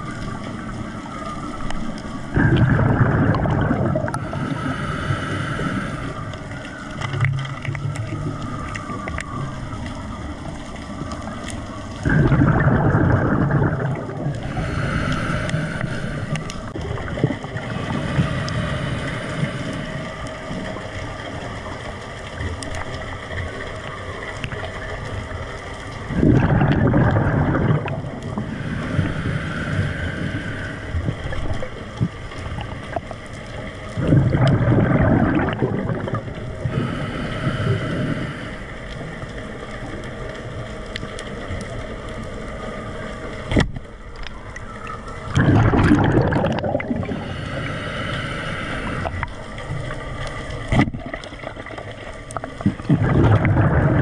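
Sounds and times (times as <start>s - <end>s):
rushing water surges: 0.0s - 54.0s
underwater water wash: 0.0s - 54.0s.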